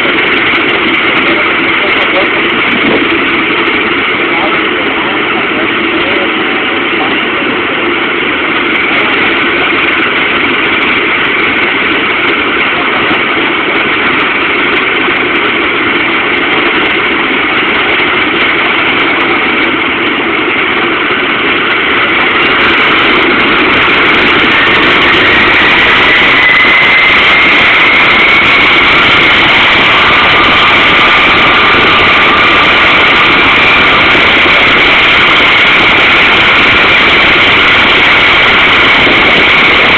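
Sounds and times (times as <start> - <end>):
helicopter engine with turbine whine: 0.0 - 39.9.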